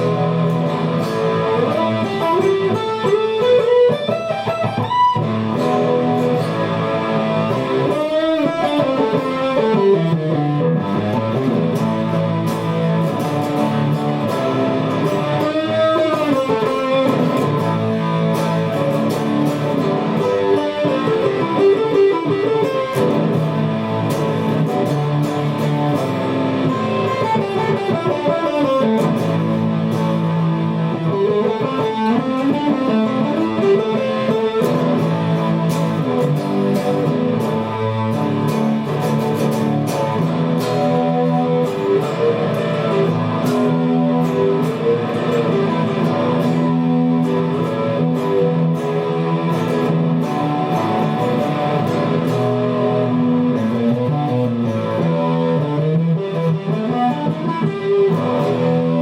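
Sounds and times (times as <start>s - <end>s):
slide guitar notes: 0.0s - 59.0s.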